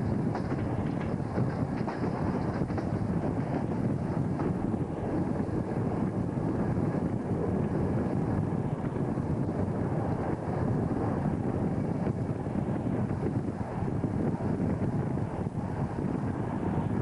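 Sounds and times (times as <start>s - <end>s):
locomotive running rumble: 0.0s - 17.0s
train wheels on rails: 0.0s - 17.0s
wind rushing over microphone: 0.0s - 17.0s.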